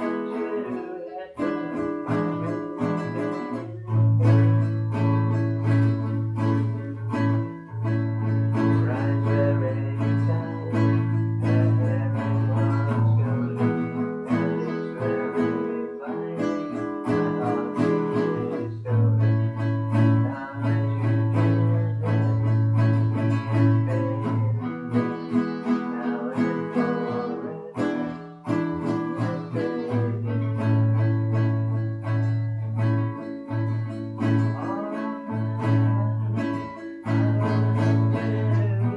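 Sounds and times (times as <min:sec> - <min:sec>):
guitar picked notes: 0:00.0 - 0:38.9.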